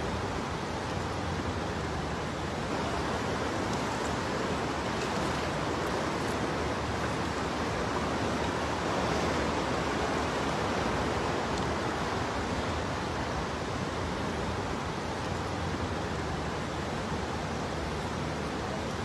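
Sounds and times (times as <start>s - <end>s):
floodwater rushing through street: 0.0s - 19.0s.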